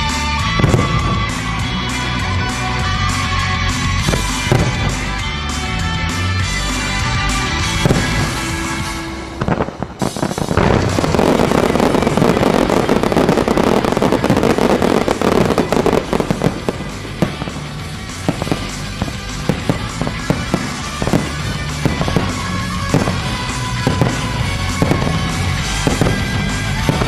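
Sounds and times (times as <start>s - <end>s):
fireworks crackling and banging: 0.0s - 27.0s
music playing: 0.0s - 27.0s.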